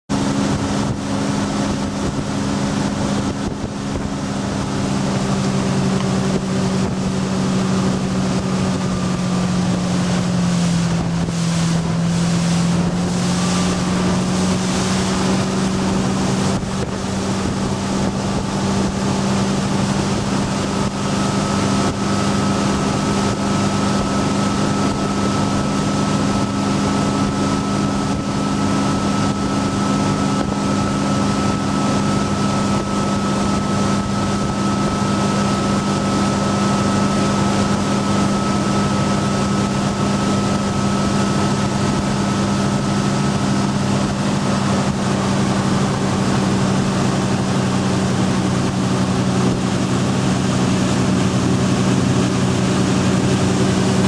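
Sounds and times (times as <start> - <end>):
boat engine running: 0.1 - 54.0
water rushing past hull: 0.1 - 54.0
wind on microphone: 0.1 - 54.0.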